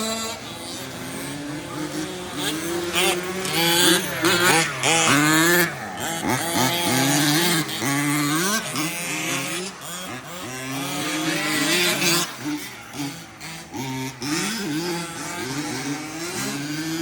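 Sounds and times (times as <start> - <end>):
radio-controlled truck motors: 0.0 - 17.0.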